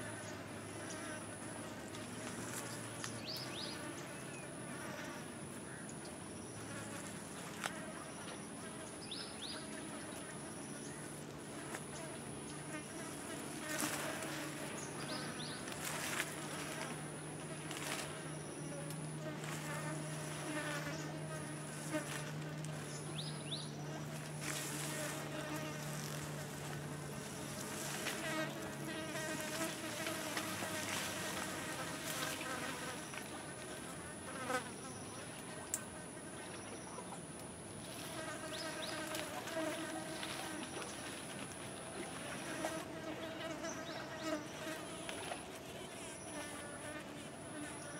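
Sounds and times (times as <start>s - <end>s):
fly droning: 6.4s - 36.0s, 37.8s - 40.9s, 42.0s - 47.9s.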